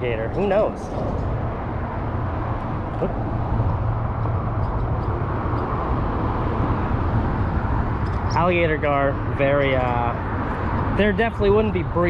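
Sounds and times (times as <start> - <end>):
highway traffic rumble: 0.0 - 12.0.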